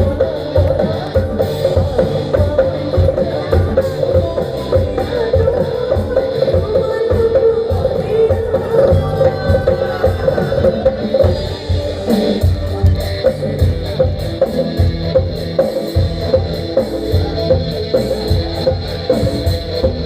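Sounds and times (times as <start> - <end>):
bass: 0.0 - 20.0
guitars: 0.0 - 20.0
steady beat: 0.0 - 20.0.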